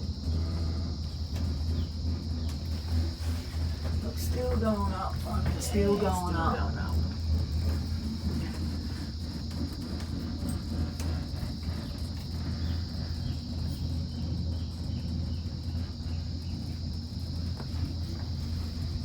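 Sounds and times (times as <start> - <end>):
insects droning at high pitch: 0.0 - 19.0
low hum: 0.0 - 19.0.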